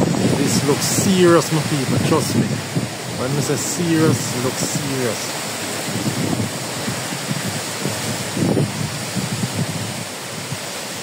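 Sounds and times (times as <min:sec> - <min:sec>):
wind buffeting microphone: 0:00.0 - 0:11.0
wind gusting through trees: 0:00.0 - 0:11.0.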